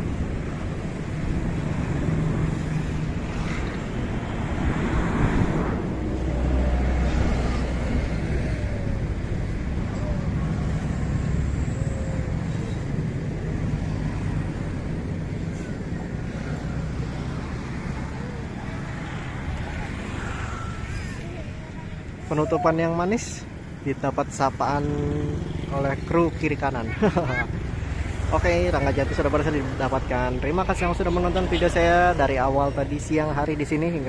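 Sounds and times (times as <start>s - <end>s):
low rumble of road traffic: 0.0s - 34.0s.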